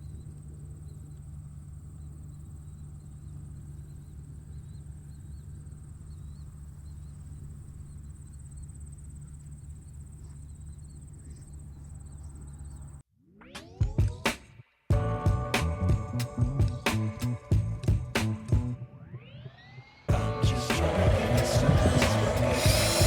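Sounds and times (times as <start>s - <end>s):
low steady rumble: 0.0s - 13.0s, 15.0s - 18.8s, 20.1s - 23.0s.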